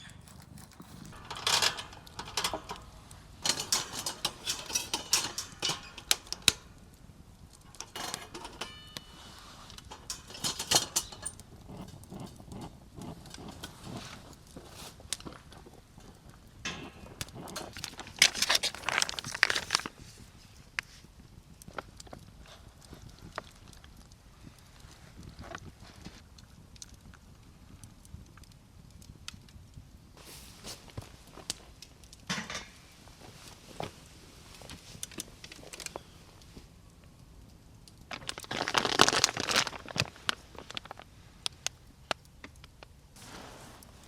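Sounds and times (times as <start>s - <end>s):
rustling and crinkling: 0.0s - 28.5s, 30.2s - 44.0s.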